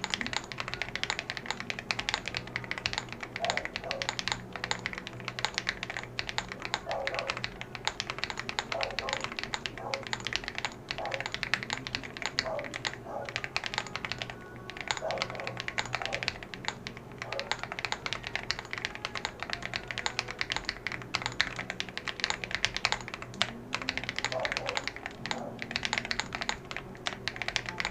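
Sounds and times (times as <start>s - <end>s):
fast typing on mechanical keyboard: 0.0s - 27.9s.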